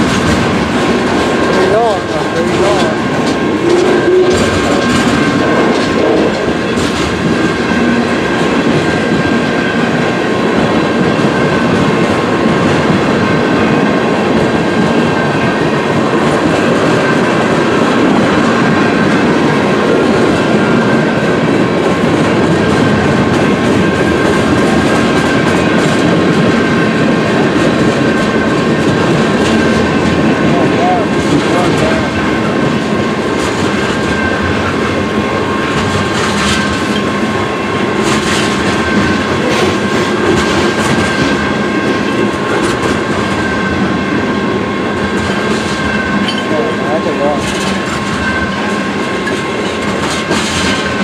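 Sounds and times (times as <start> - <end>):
freight train wheels clattering: 0.0 - 51.0.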